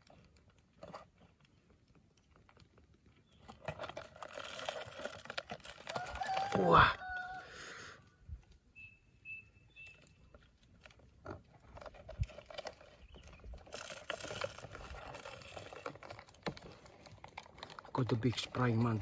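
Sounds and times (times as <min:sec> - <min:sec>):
plastic rustling and crinkling: 0:00.0 - 0:06.6, 0:10.0 - 0:19.0.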